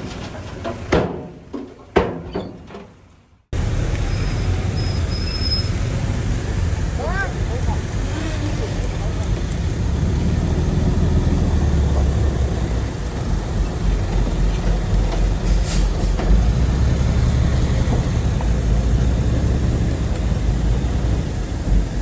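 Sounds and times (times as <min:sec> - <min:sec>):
heavy diesel engine running: 0:03.6 - 0:22.0.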